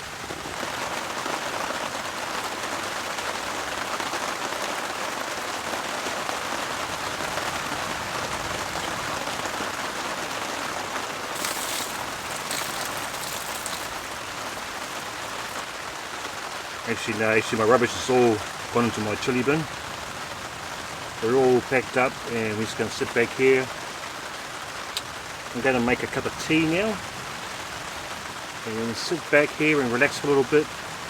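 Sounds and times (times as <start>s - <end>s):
heavy rain on a tarp: 0.0s - 31.0s.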